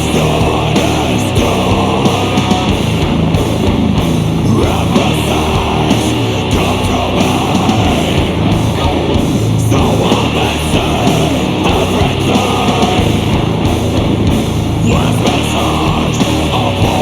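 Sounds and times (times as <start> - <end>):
death metal with distorted guitar: 0.0 - 17.0.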